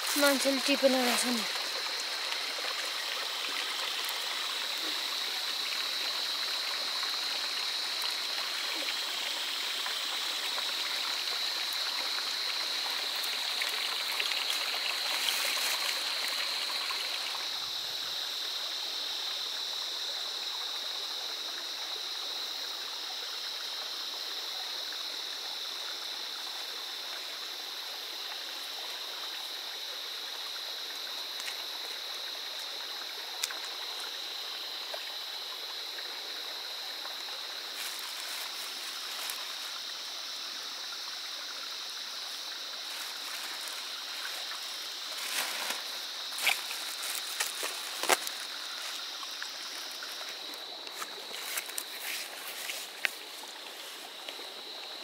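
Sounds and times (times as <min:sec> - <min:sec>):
small stream of running water: 0:00.0 - 0:55.0.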